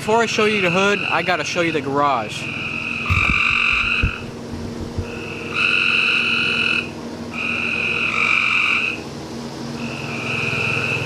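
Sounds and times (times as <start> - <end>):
steady low hum: 0.0 - 11.0
frogs croaking in chorus: 0.3 - 9.1, 9.7 - 11.0.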